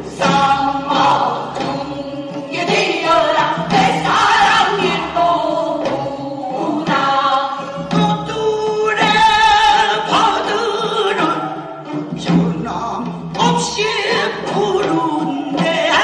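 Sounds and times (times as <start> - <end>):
folk song sung with vibrato: 0.0 - 16.0
instrumental accompaniment: 0.0 - 16.0.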